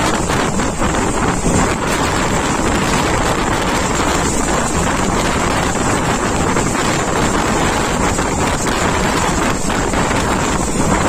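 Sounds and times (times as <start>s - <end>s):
moving passenger train: 0.0s - 11.0s
wind rushing over microphone: 0.0s - 11.0s.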